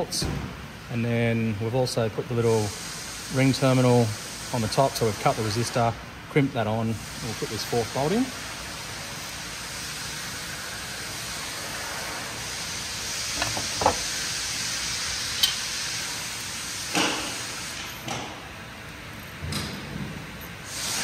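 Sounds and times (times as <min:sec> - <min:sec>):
background hiss: 0:01.0 - 0:21.0.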